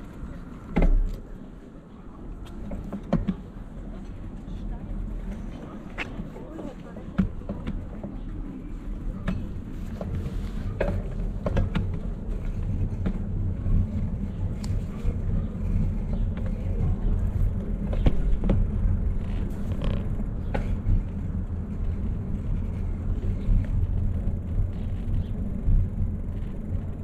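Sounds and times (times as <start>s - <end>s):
bike rattling and knocking: 2.4s - 3.7s, 5.9s - 27.0s
bicycle rolling over paving: 2.4s - 27.0s.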